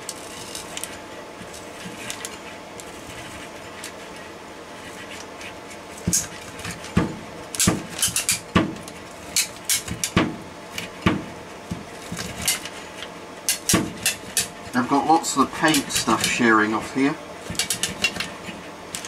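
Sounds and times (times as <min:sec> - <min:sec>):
air purifier fan hum: 0:00.0 - 0:19.0.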